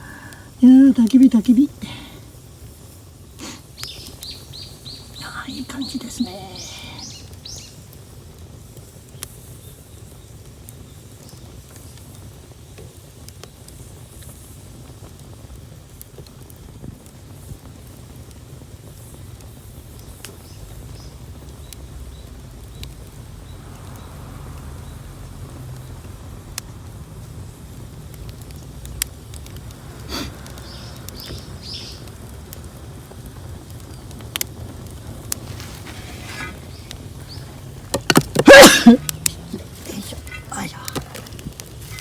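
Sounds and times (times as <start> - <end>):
bonfire crackling: 0.0 - 42.0.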